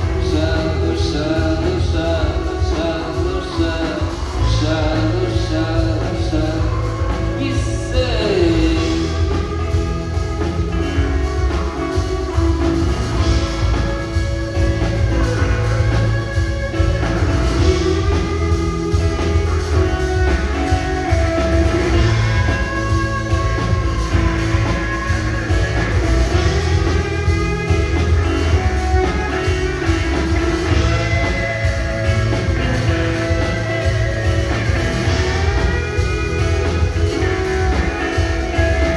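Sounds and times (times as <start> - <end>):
electric guitars: 0.0 - 38.9
person singing: 0.0 - 38.9.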